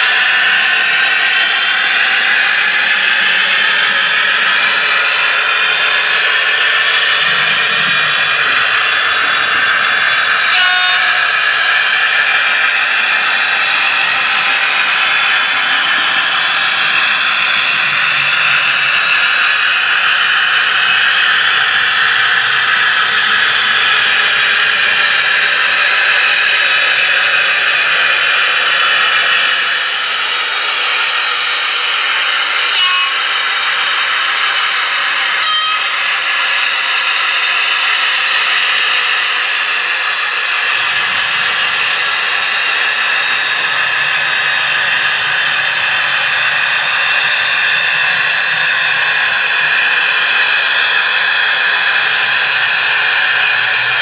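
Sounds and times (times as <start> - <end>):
model trains rolling and whirring: 0.0 - 54.0
thin high whine: 0.0 - 54.0.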